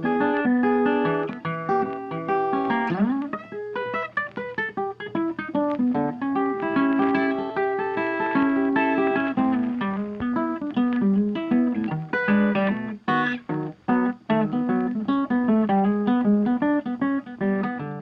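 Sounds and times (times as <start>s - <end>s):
guitar plucked and strummed: 0.0s - 18.0s.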